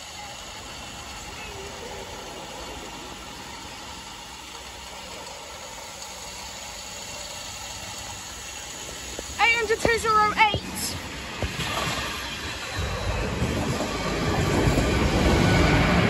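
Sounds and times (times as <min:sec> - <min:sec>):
engines idling: 0:00.0 - 0:16.0.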